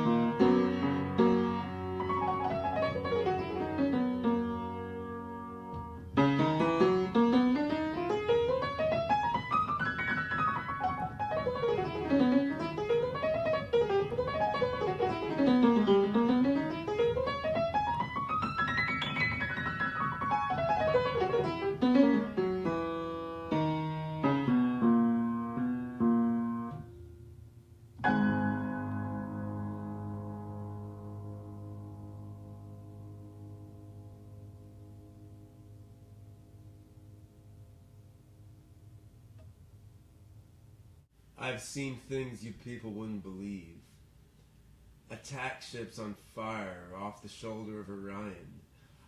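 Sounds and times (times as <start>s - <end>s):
solo piano playing: 0.0s - 39.4s.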